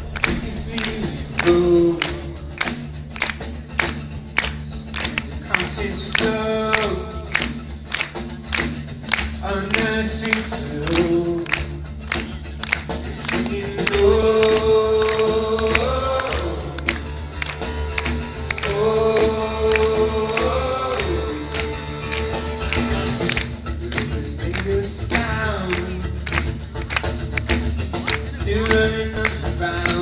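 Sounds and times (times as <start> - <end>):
steady percussive beat: 0.0 - 30.0.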